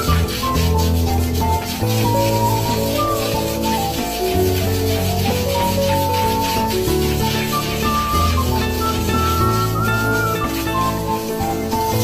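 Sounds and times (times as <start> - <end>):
melody of held notes: 0.0 - 12.0
scratchy rubbing texture: 0.0 - 12.0
steady bass line: 0.0 - 12.0.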